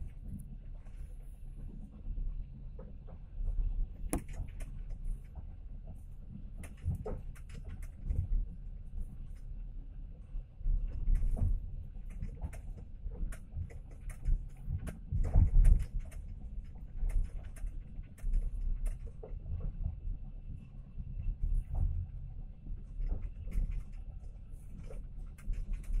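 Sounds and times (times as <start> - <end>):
train running gear rumble: 0.0 - 26.0.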